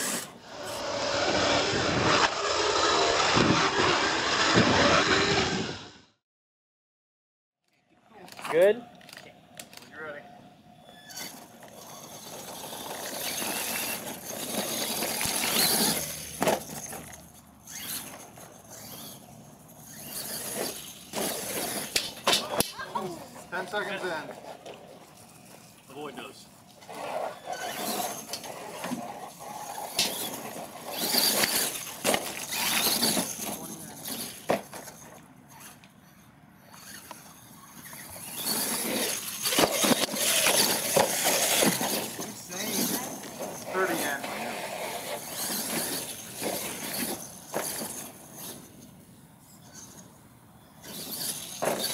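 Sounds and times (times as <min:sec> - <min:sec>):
knocks and scraping in dirt: 0:00.0 - 0:05.8, 0:11.0 - 0:36.0, 0:36.6 - 0:50.2, 0:50.8 - 0:51.9
toy truck motors whining: 0:00.0 - 0:06.1, 0:10.8 - 0:51.9.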